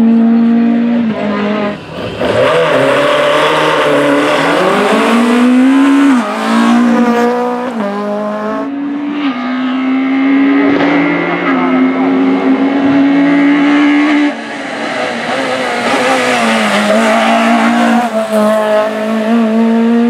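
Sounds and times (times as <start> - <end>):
car engine at full throttle: 0.0 - 20.0.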